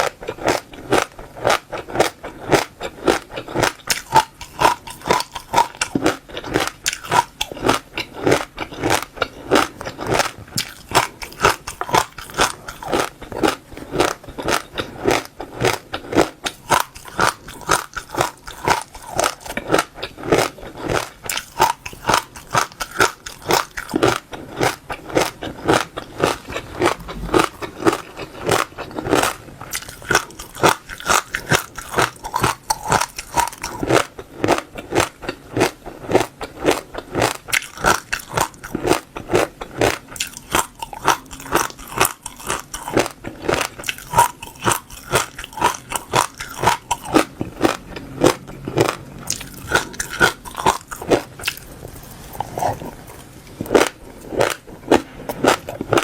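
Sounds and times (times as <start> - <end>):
chewing crunchy seeds: 0.0 - 56.0.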